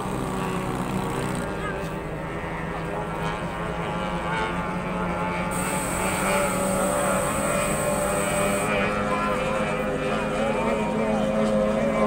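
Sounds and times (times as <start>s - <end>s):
speedboat engine whining: 0.0s - 12.0s.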